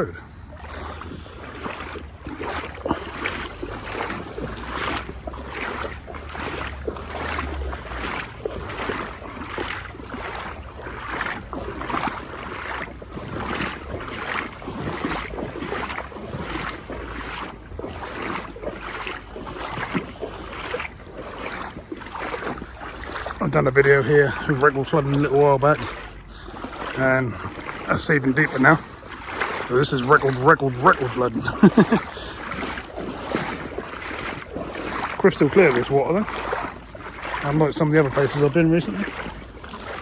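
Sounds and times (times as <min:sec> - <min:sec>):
wading through deep water: 0:00.0 - 0:40.0.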